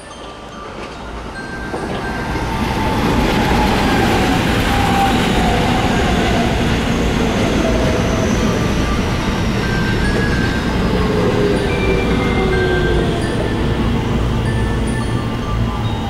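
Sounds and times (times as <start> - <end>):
wheel and rail rumble: 0.0 - 16.0
train motor whine: 0.1 - 16.0.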